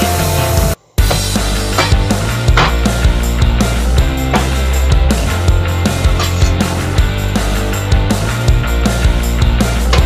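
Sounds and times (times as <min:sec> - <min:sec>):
loud music with heavy bass: 0:00.0 - 0:10.0
steady drum beat: 0:01.0 - 0:10.0.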